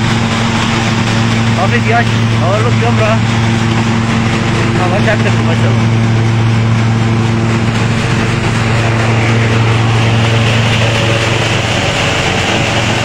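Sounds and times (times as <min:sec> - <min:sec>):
thresher machine droning: 0:00.0 - 0:13.0.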